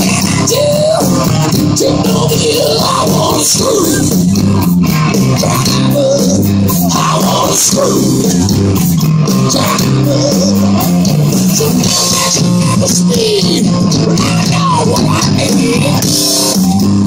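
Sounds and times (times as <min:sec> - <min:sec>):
bass line: 0:00.0 - 0:17.0
drum kit beat: 0:00.0 - 0:17.0
electric guitars: 0:00.0 - 0:17.0.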